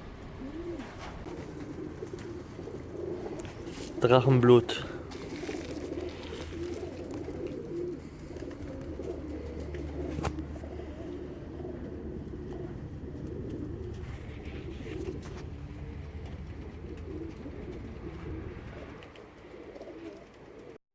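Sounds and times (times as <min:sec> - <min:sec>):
low hum: 0:00.0 - 0:04.2, 0:04.8 - 0:19.5
pigeons cooing: 0:00.0 - 0:20.8.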